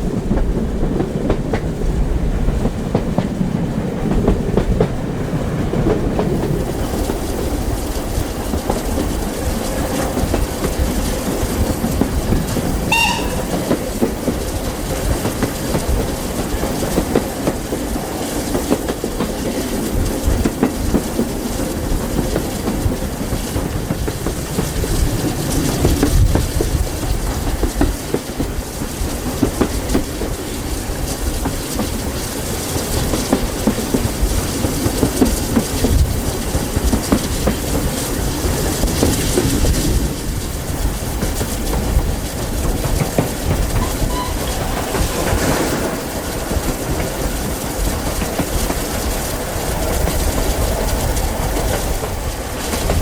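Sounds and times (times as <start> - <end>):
train rumbling: 0.0 - 53.0
train wheels clacking over rail joints: 0.0 - 53.0.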